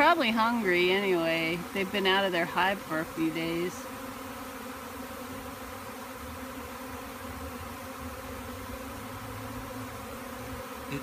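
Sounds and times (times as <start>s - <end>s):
swarm of bees buzzing: 0.0s - 11.0s.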